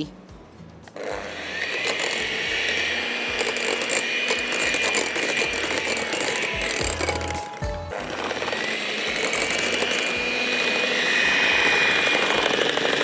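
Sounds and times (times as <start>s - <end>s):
electric hand mixer whining: 1.0s - 13.0s.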